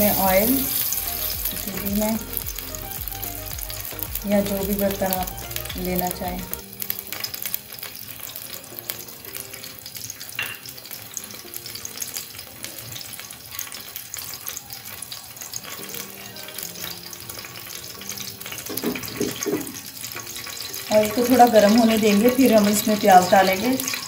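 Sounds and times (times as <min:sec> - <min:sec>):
oil crackling and sizzling: 0:00.0 - 0:24.0.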